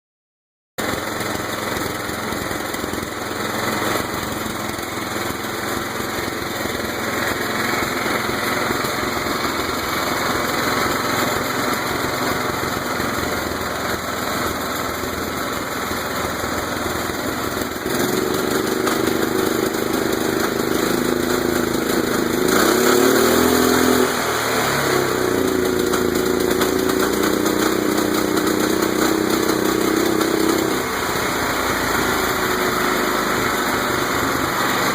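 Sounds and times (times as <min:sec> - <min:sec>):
engine knocking: 0:00.8 - 0:34.9
lawn tractor engine running: 0:00.8 - 0:34.9.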